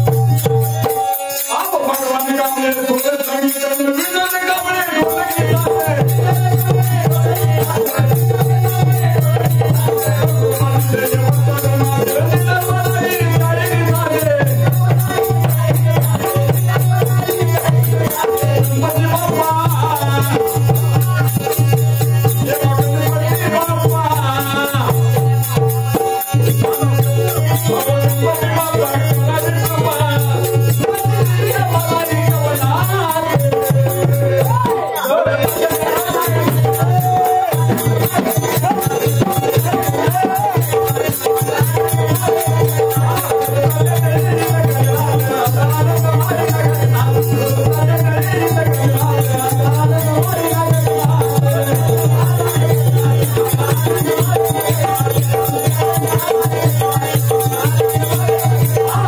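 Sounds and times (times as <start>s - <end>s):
man singing: 0.0s - 59.0s
rattling jingling percussion: 0.0s - 59.0s.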